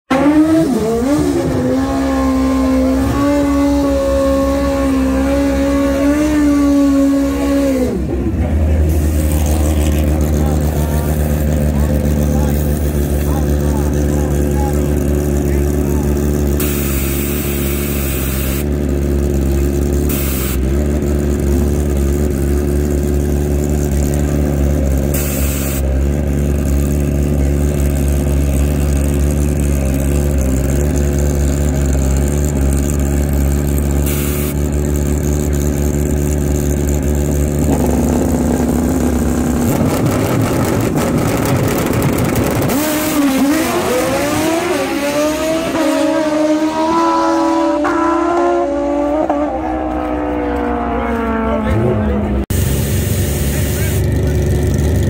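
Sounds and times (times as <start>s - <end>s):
motorcycle engines idling and revving: 0.0s - 55.0s.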